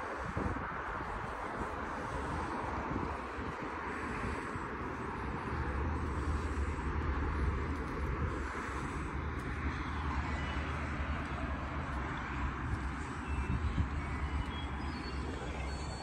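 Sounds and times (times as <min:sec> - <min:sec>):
distant road traffic hum: 0:00.0 - 0:16.0.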